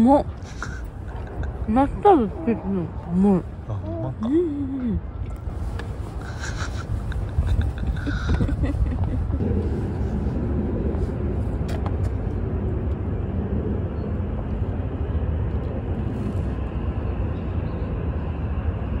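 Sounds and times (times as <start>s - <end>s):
low rumbling outdoor background: 0.0s - 19.0s.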